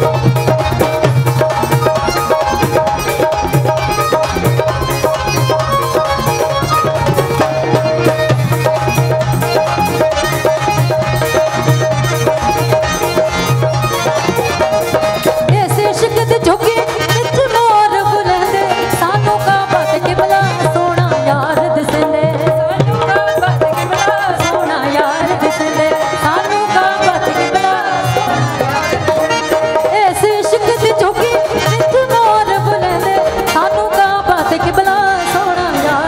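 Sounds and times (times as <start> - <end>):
tabla fast rhythm: 0.0 - 36.0.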